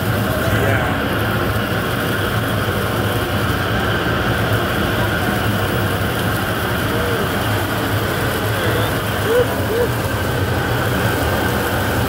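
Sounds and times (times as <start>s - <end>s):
roaster burners roaring: 0.0s - 12.0s.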